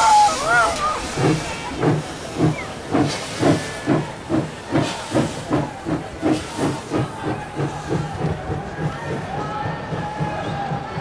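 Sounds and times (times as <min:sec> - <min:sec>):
steam hissing: 0:00.0 - 0:11.0
steam locomotive chuffing: 0:00.0 - 0:11.0.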